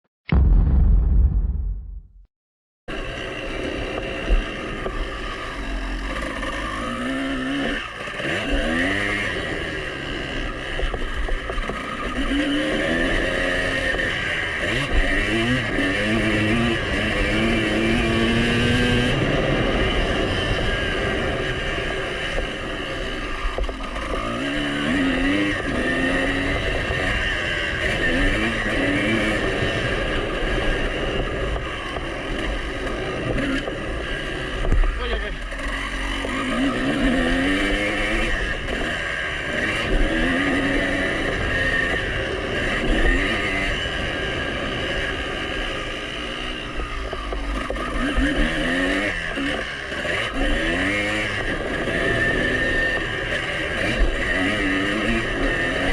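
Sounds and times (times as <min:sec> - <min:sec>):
two-stroke motorcycle engine revving: 0:02.9 - 0:55.9.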